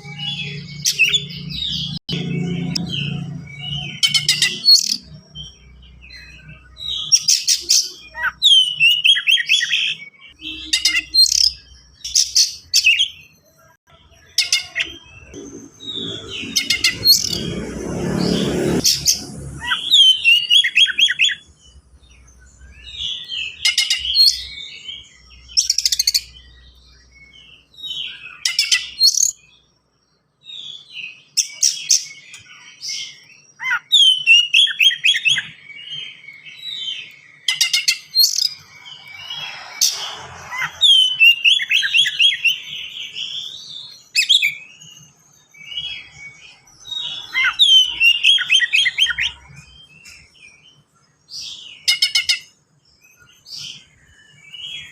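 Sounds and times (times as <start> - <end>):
bird singing rapid trills: 0.0 - 54.9.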